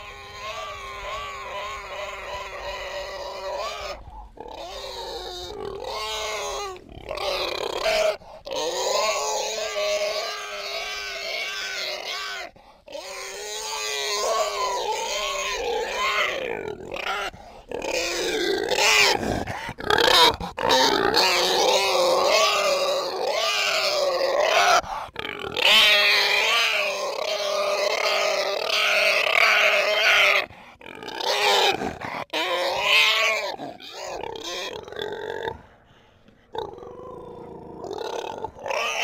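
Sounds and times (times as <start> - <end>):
pig squealing: 0.0 - 35.6, 36.5 - 39.0.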